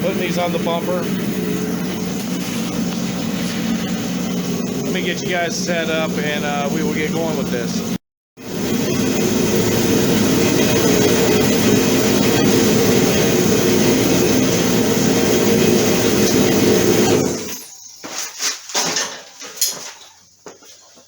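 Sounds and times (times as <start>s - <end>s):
heater rumbling: 0.0s - 17.7s.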